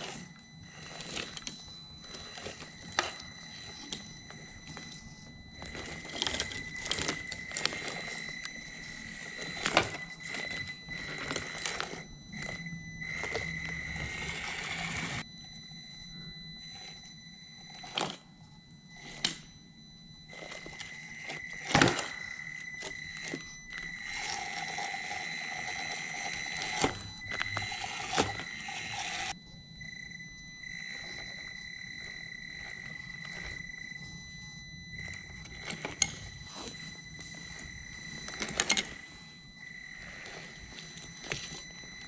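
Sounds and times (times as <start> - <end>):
toy car electric motor whining: 0.0 - 42.0.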